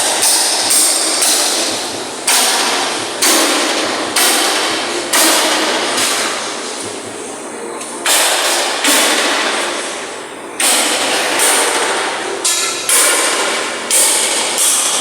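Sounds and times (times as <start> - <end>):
hammer striking steel: 0.0 - 6.8, 8.0 - 10.0, 10.6 - 15.0.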